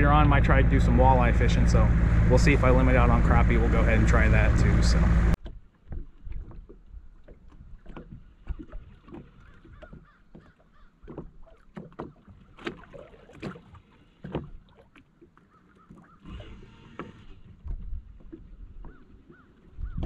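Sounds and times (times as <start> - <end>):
waves slapping against boat hull: 0.0 - 20.0.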